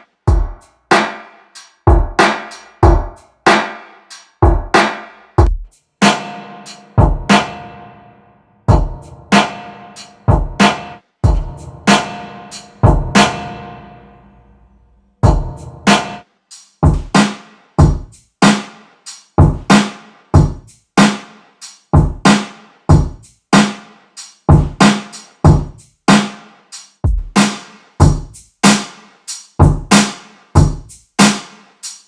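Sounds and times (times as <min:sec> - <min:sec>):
drum loop with reverb: 0:00.0 - 0:07.7, 0:08.7 - 0:13.7, 0:15.2 - 0:32.0.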